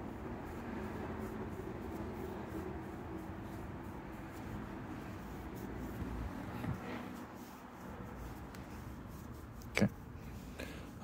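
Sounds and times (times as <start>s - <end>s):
low background noise: 0.0s - 11.0s
marker rubbing on fabric: 0.0s - 11.0s.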